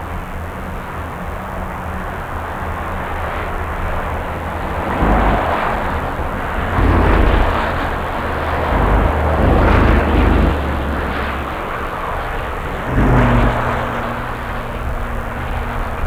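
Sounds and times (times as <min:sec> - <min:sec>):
traffic low rumble: 0:00.0 - 0:16.0
tyres hissing on wet road: 0:00.1 - 0:16.0.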